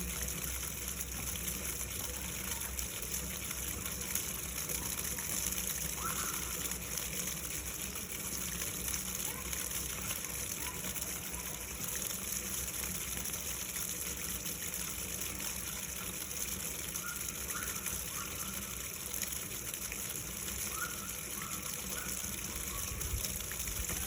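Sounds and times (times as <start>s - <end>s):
water gushing from a pump discharge: 0.0s - 24.0s.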